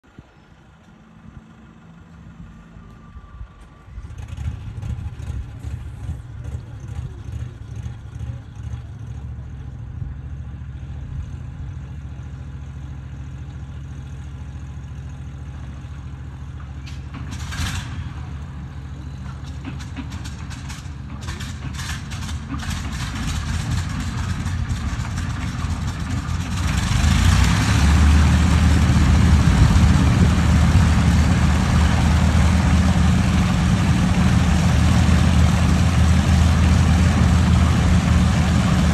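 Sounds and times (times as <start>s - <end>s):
aircraft engine idling: 0.1s - 38.9s
aircraft engine running up: 0.2s - 38.9s.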